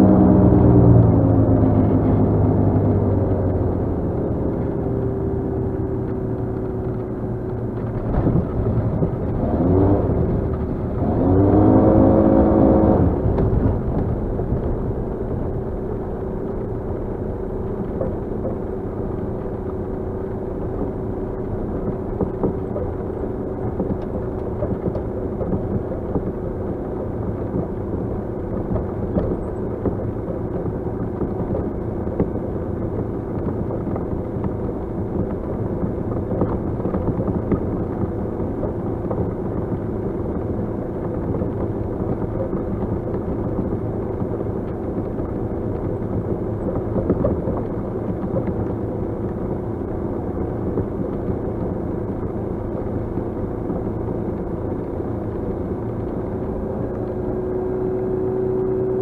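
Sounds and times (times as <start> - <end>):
aircraft engine inside cabin: 0.0 - 59.0.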